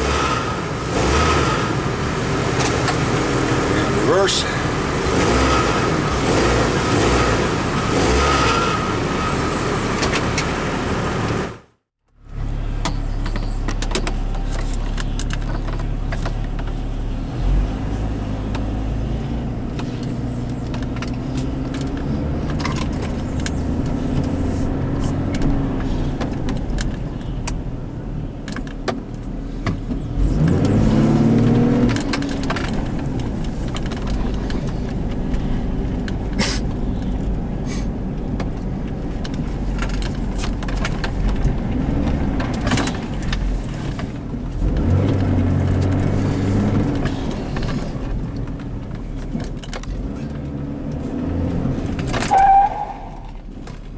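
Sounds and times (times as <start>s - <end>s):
car engine revving: 0.0s - 11.6s, 14.2s - 28.1s, 29.4s - 53.9s.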